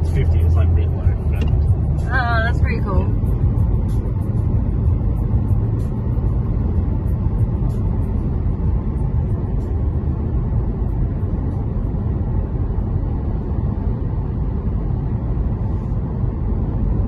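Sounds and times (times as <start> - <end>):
car cabin tyre and engine noise: 0.0 - 17.0.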